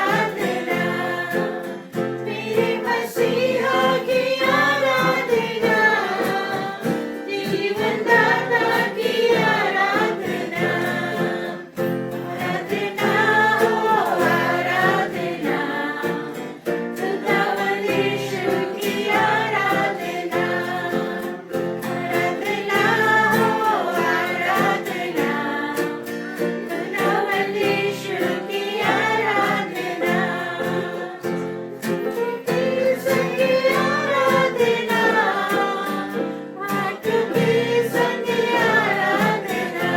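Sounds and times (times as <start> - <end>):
group singing worship song: 0.0 - 39.9
instrumental accompaniment: 0.0 - 39.9.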